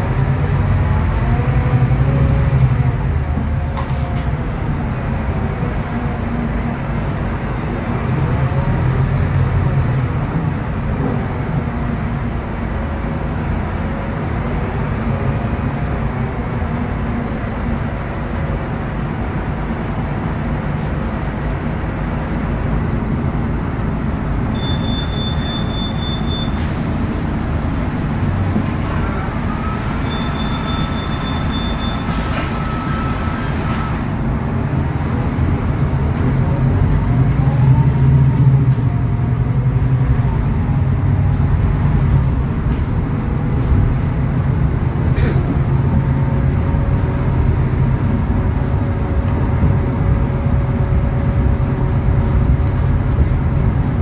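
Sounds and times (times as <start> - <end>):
bus engine low rumble: 0.0 - 54.0
road noise: 0.0 - 54.0.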